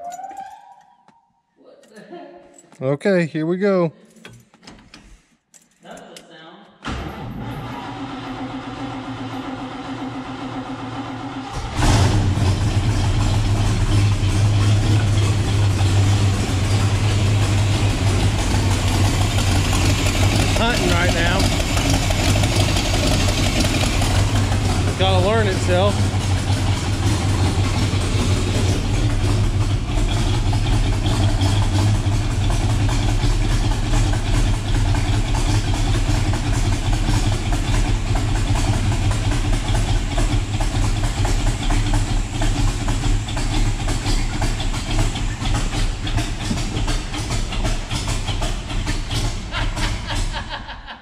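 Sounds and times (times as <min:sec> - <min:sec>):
car engine idling unevenly: 0:08.0 - 0:50.9.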